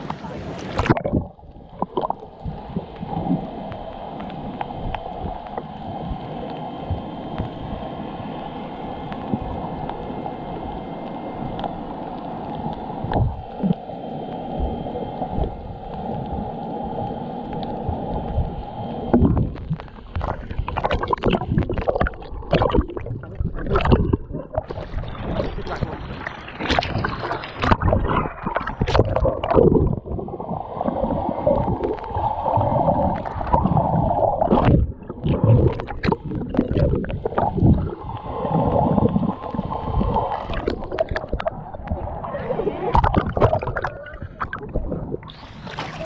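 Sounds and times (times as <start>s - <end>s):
underwater rumble and gurgling: 0.0s - 46.0s
water splashing and sloshing: 0.0s - 46.0s.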